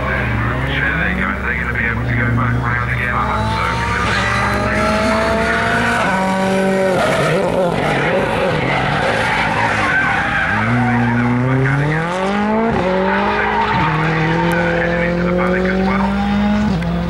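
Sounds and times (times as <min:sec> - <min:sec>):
rally car engine accelerating: 0:00.0 - 0:17.0
tyres skidding: 0:00.0 - 0:17.0.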